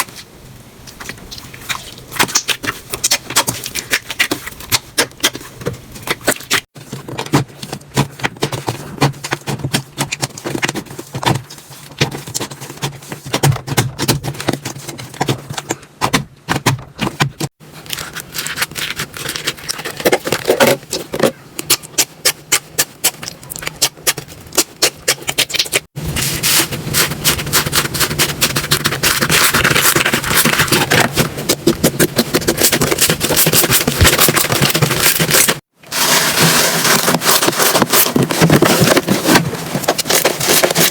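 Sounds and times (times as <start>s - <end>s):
slime clicking and crackling: 0.9s - 16.6s, 17.8s - 35.6s.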